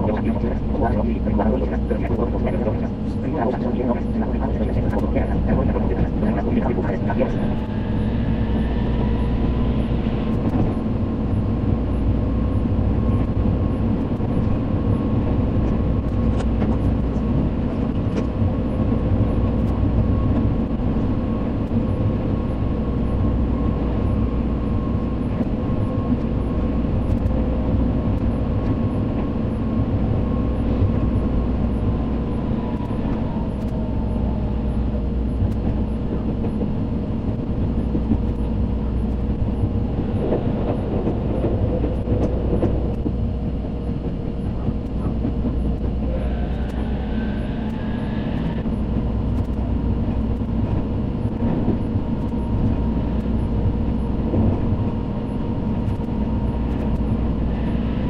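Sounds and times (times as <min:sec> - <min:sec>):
constant whine: 0:00.0 - 0:58.0
train running rumble: 0:00.0 - 0:58.0.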